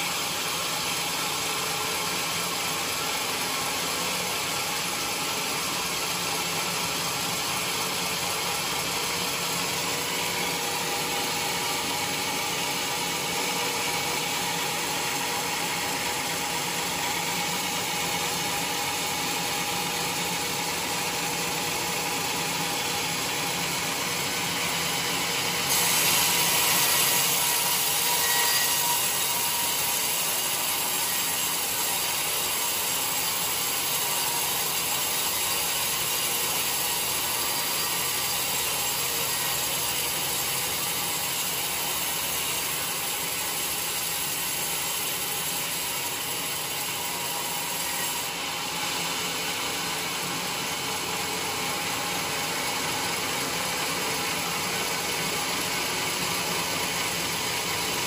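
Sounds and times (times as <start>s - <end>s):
band sawmill cutting log: 0.0s - 58.0s.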